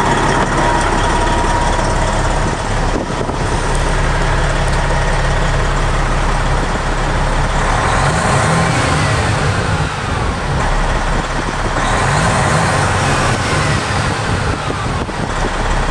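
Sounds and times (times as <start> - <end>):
diesel engine revving: 0.0 - 15.9.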